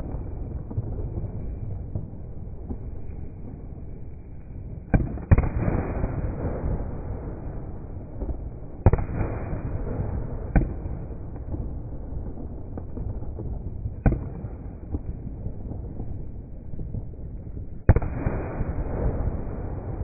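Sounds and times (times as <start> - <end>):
fireworks bangs with crackle: 0.0 - 20.0
steady low rumble: 0.0 - 20.0.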